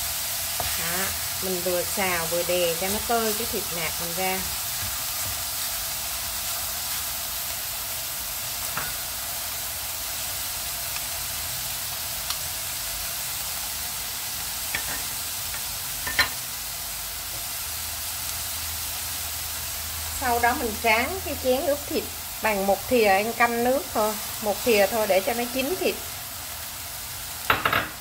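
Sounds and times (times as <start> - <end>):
meat sizzling in frying pan: 0.0 - 28.0.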